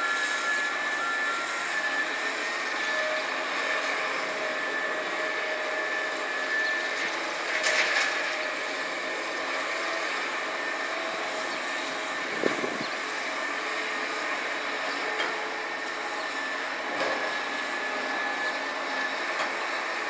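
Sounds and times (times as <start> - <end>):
machinery drone with high whine: 0.0 - 20.0.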